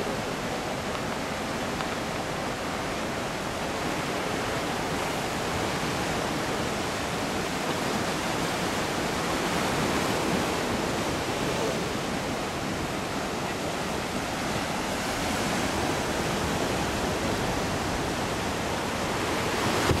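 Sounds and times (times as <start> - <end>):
surf washing against rocks: 0.0 - 20.0.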